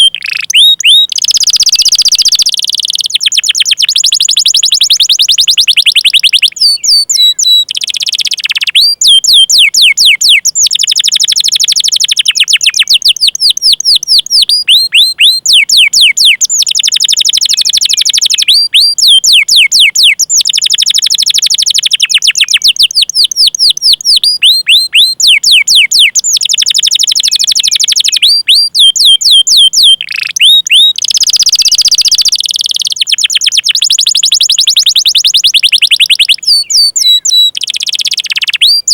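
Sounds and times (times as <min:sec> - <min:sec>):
canary singing trills and whistles: 0:00.0 - 0:38.9.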